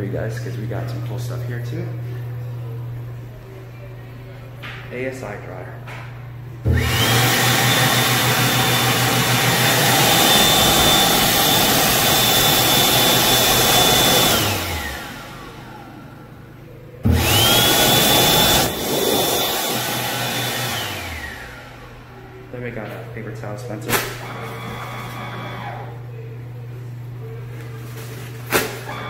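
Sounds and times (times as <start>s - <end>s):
hand dryer air and motor whine: 5.2s - 29.0s.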